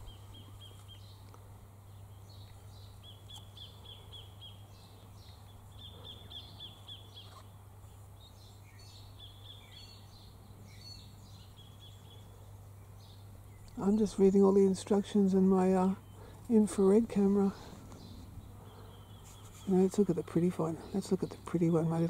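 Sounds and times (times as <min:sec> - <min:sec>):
bird chirping: 0:00.0 - 0:22.0
faint low hum: 0:00.0 - 0:22.0.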